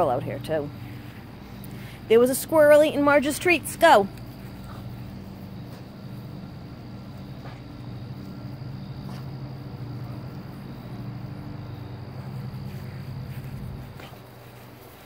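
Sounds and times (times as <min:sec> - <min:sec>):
insects trilling: 0:00.0 - 0:15.0
steady low hum: 0:00.0 - 0:15.0.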